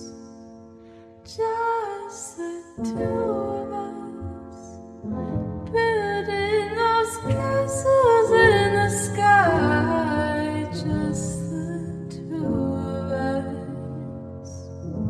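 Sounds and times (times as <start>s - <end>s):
woman singing: 1.3s - 4.8s, 5.7s - 14.7s.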